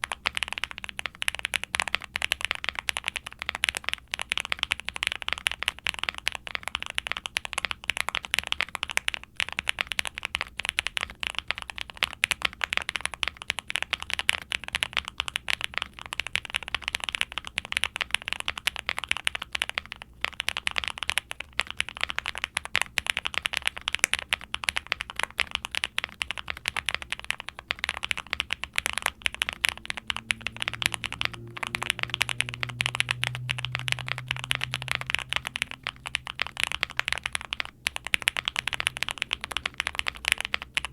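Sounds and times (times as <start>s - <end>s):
faint low hum: 0.0s - 40.9s
keyboard typing clatter: 0.0s - 40.9s.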